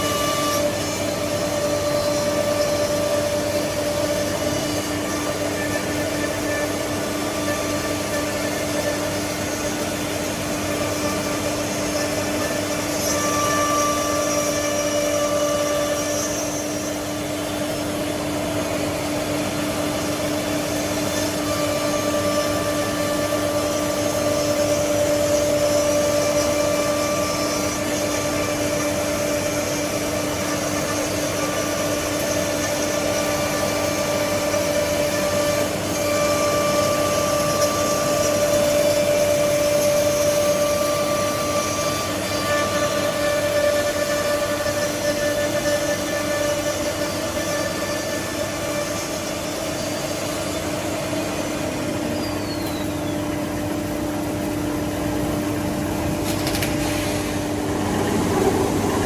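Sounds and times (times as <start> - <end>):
router spindles whining: 0.0 - 59.0.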